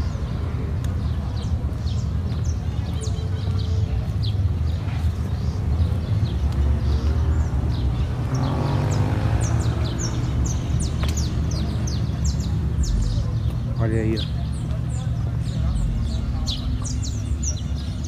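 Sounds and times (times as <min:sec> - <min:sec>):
car engines rumbling: 0:00.0 - 0:18.0.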